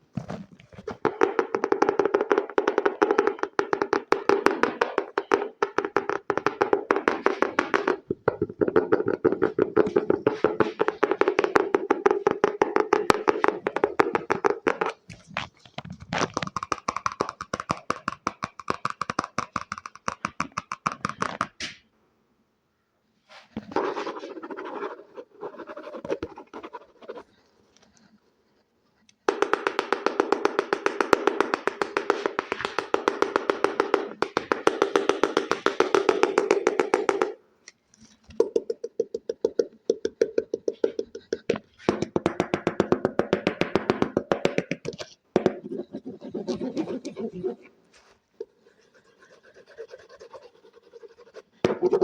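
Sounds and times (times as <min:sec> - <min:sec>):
hand scratching and tapping object: 0:00.2 - 0:21.8, 0:23.6 - 0:28.1, 0:29.0 - 0:52.0.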